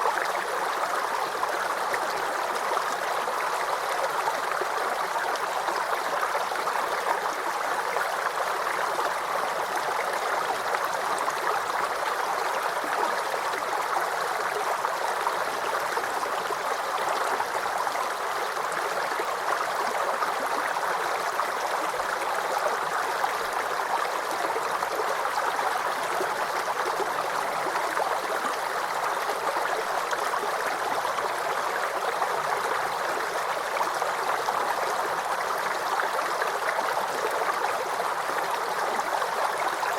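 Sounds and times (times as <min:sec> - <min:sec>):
creek babbling: 0:00.0 - 0:39.9.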